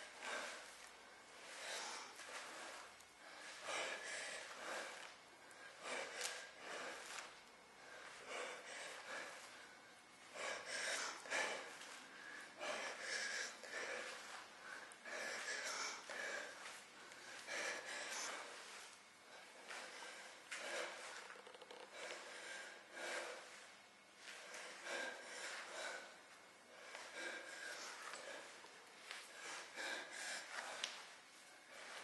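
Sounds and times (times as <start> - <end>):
woman breathing hard: 0.0 - 32.0.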